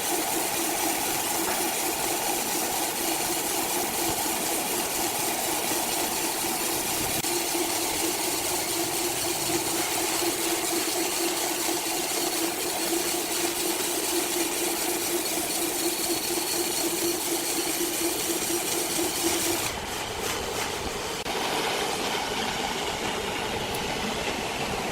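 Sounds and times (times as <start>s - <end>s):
sawmill machinery hum: 0.0s - 24.9s.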